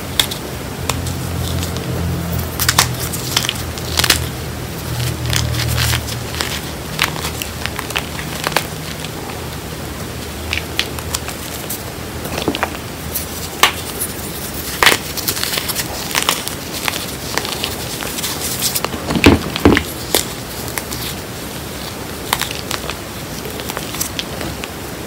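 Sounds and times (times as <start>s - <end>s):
hands crunching chalk: 0.0s - 24.8s.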